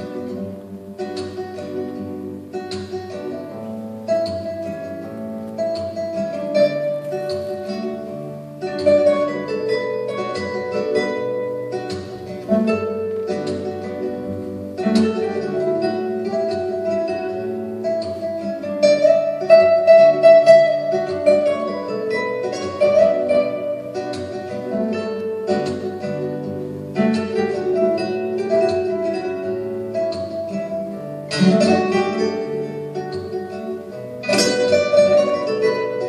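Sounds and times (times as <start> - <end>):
plucked string music: 0.0 - 36.0.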